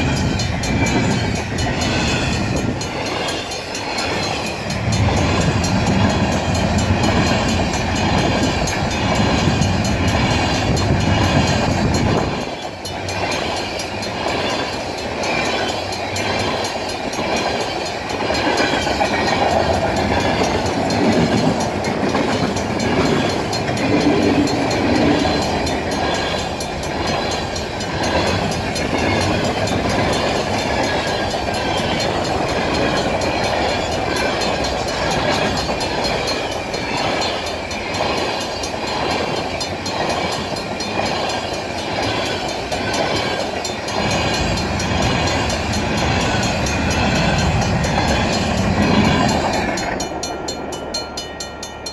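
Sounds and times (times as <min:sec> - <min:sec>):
crossing bell ringing: 0:00.0 - 0:51.9
train wheels rumbling and clacking: 0:00.0 - 0:51.9.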